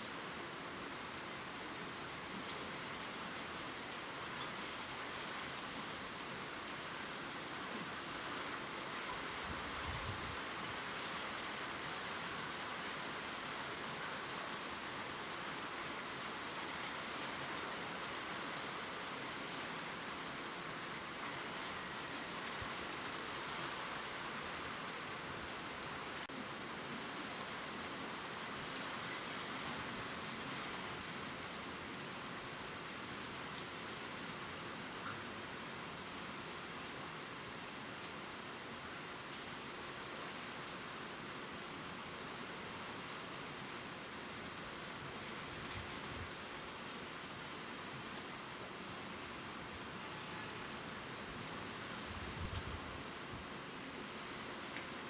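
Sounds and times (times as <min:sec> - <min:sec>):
gentle rain on leaves: 0:00.0 - 0:55.0.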